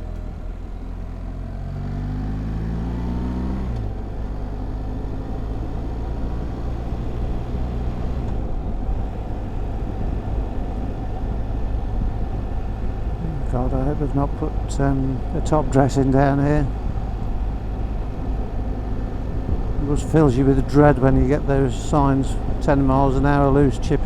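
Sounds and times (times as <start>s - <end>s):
motorcycle engine accelerating: 0.0s - 24.0s
wind and road noise: 0.0s - 24.0s.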